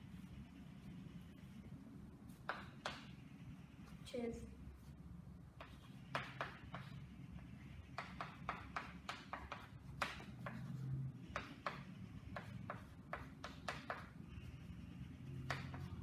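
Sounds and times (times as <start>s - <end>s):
chalk tapping and scratching on blackboard: 0.0s - 4.0s, 4.8s - 16.0s.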